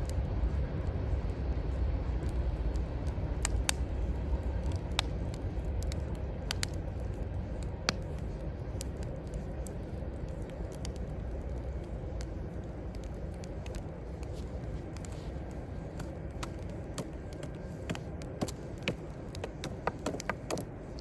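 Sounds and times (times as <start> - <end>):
low rumble of city traffic: 0.0 - 21.0
wood fire crackling and popping: 0.0 - 21.0.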